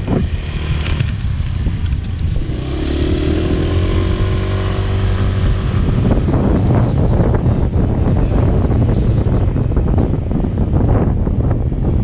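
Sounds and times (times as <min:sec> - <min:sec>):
motorbike engine accelerating: 0:00.0 - 0:12.0.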